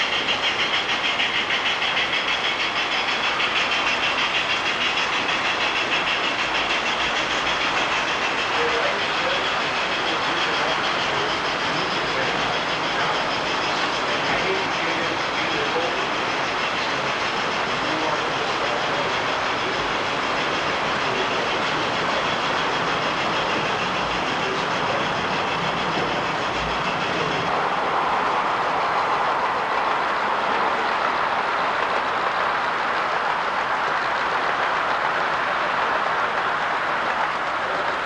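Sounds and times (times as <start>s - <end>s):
trains rolling on track: 0.0s - 38.0s.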